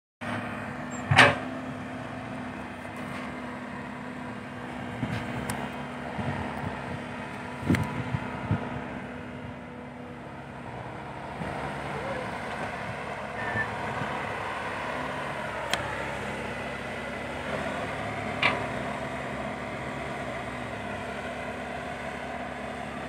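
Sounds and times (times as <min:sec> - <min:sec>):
excavator diesel engine running: 0:00.2 - 0:23.0.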